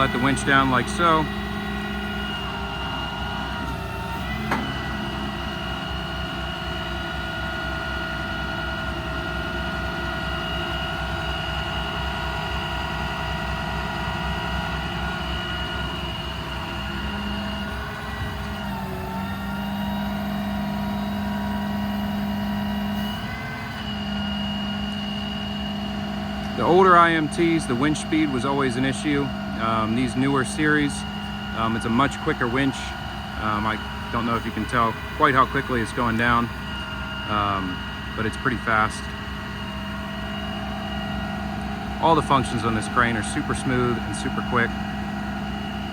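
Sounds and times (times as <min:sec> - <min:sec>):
crane winch hydraulic whine: 0:00.0 - 0:45.9
diesel engine running: 0:00.0 - 0:45.9.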